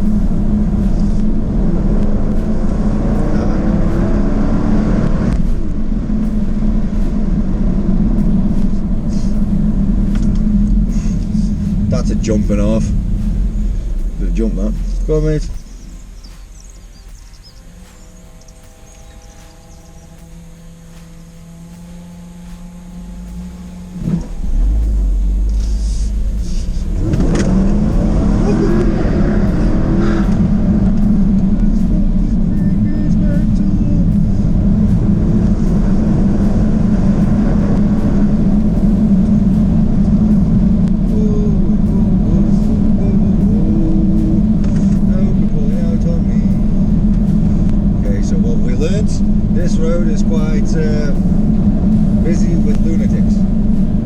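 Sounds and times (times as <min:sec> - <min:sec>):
car engine rumble: 0:00.0 - 0:54.0
rising engine note: 0:00.0 - 0:54.0
road noise: 0:00.0 - 0:54.0.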